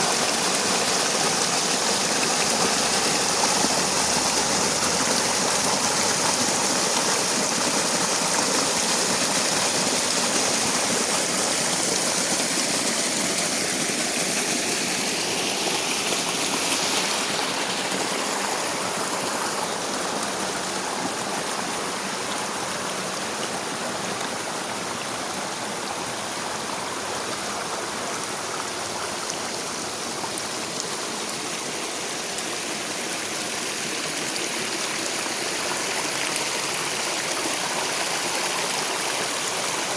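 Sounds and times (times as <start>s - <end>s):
running rainwater: 0.0s - 39.9s.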